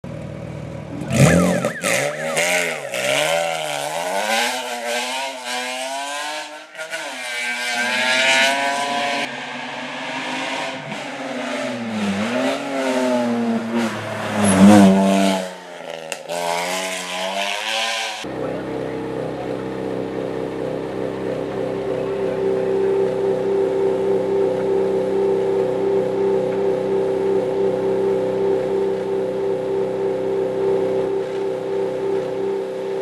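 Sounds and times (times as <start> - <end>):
race car engine at high revs: 0.2 - 33.0.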